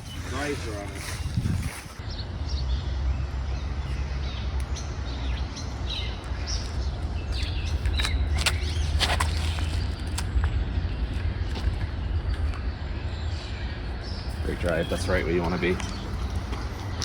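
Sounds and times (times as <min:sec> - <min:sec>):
birds chirping: 0:00.0 - 0:17.0
wind rumble on microphone: 0:00.0 - 0:17.0.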